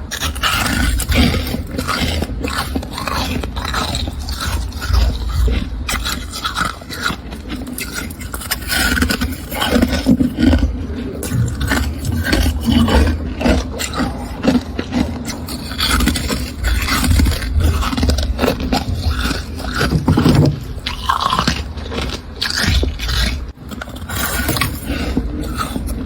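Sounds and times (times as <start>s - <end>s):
freezer frost being scraped: 0.0s - 26.0s.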